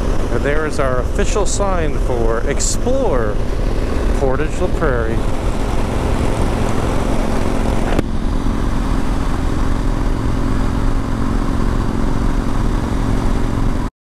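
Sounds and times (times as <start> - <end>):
motorcycle engine running: 0.0 - 13.9
wind rush on microphone: 0.0 - 13.9.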